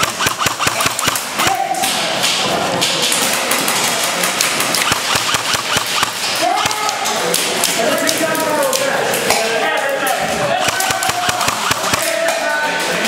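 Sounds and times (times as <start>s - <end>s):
airsoft guns firing: 0.0s - 9.4s, 10.5s - 12.5s
bbs striking hard surfaces: 0.0s - 9.6s, 10.5s - 12.5s
background movement noise: 0.6s - 13.0s.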